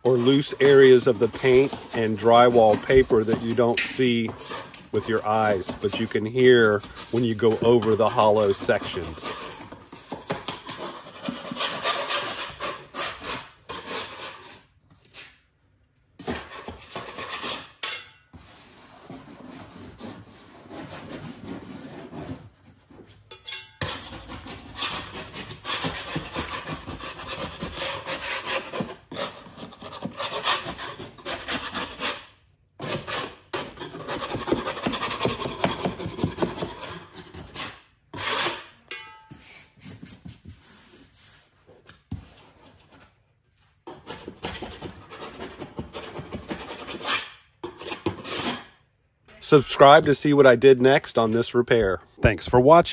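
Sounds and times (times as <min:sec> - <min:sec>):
metal scraper rasping on drywall: 0:00.0 - 0:15.4, 0:16.2 - 0:41.5, 0:43.8 - 0:48.8.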